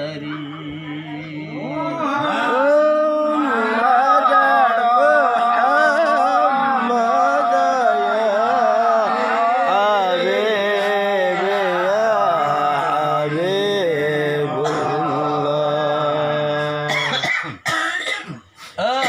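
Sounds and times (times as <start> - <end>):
man chanting melodically: 0.0 - 17.3.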